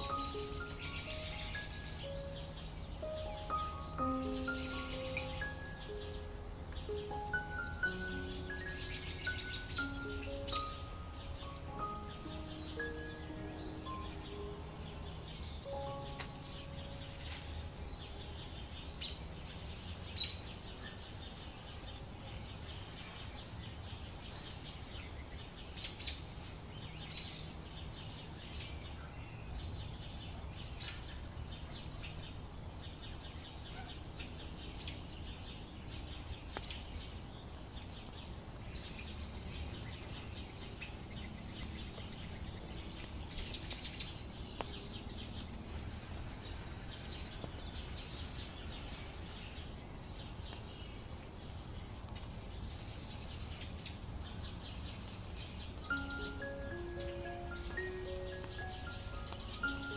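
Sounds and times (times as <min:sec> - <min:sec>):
birds chirping: 0:00.0 - 0:59.9
low outdoor background noise: 0:00.0 - 0:59.9.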